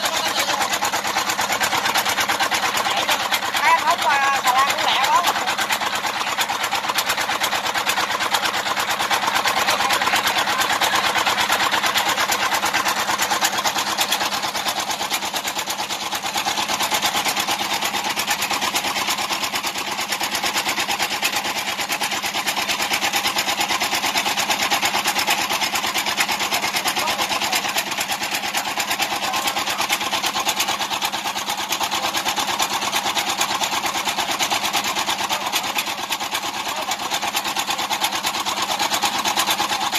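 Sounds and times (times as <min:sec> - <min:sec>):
small engine rattling: 0:00.0 - 0:39.9.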